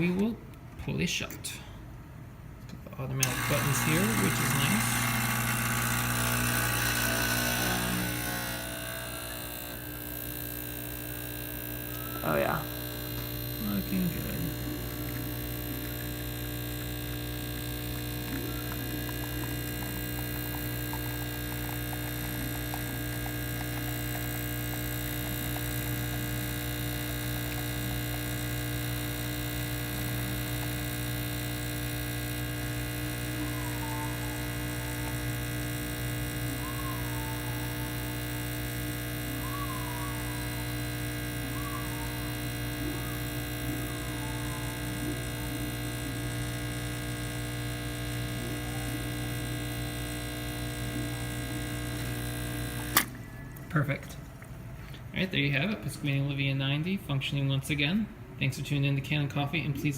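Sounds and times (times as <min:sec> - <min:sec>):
espresso machine pump humming: 0:03.1 - 0:56.6.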